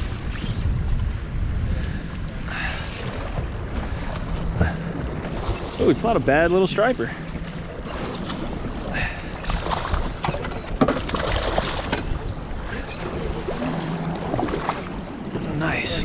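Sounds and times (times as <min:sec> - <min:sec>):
water sounds: 0:00.0 - 0:16.0
wind on microphone: 0:00.0 - 0:16.0.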